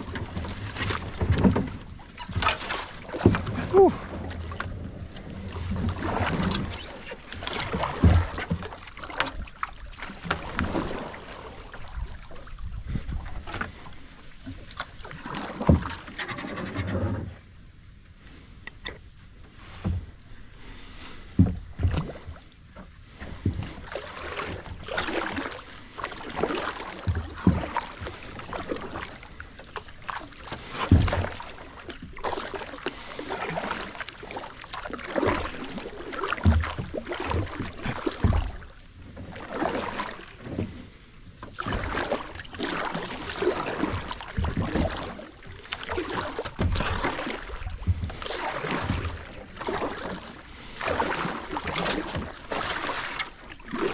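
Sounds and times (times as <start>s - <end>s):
paddle splashing in water: 0.0s - 53.9s.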